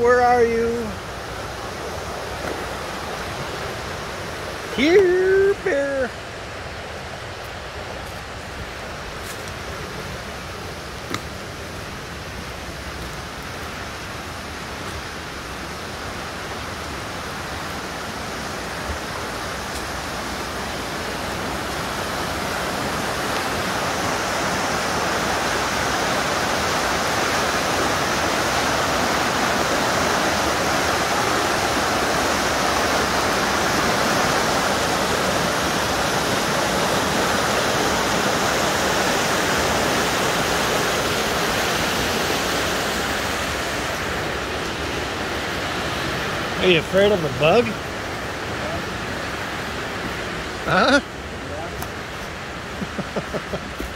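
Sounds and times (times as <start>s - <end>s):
river rapids rushing: 0.0s - 53.9s.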